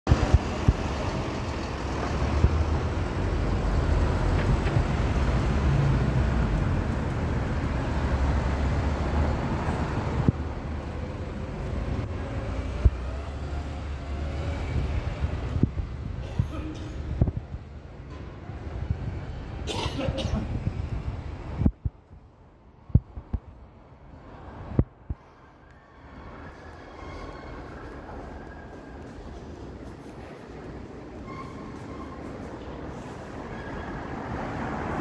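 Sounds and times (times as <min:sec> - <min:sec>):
street traffic: 0:00.0 - 0:35.0
bus engine rumble: 0:00.1 - 0:35.0.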